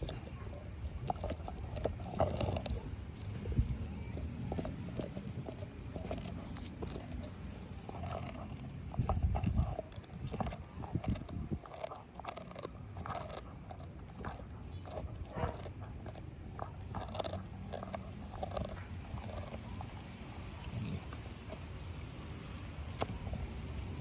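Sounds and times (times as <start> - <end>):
crunching clicks: 0.0 - 23.4
dog chewing and biting: 0.0 - 24.0.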